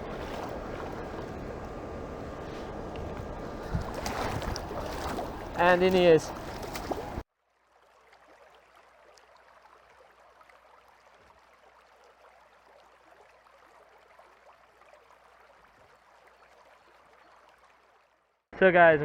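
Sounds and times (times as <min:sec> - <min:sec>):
stream water flowing: 0:00.0 - 0:18.4.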